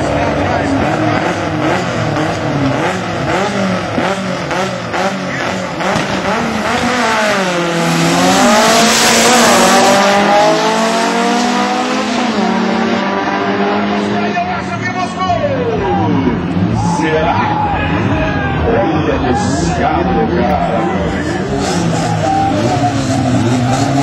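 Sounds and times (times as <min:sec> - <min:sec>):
drag car engines revving: 0:00.0 - 0:24.0
loud rush: 0:00.0 - 0:24.0.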